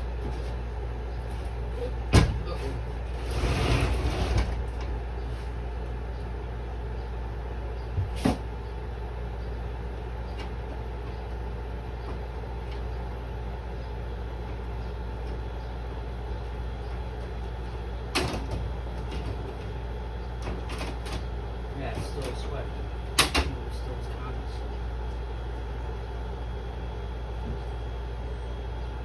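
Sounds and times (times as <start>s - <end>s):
air conditioner humming: 0.0s - 29.0s.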